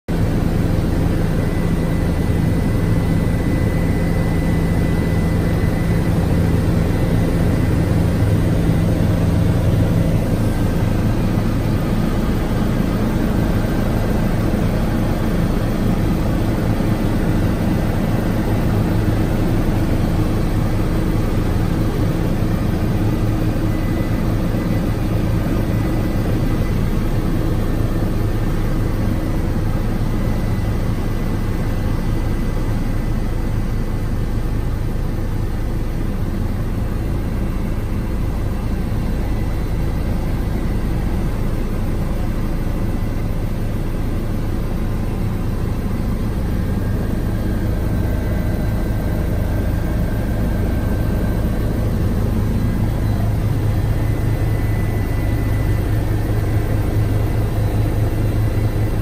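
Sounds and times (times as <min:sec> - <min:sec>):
propeller aircraft engine drone: 0:00.0 - 0:59.0.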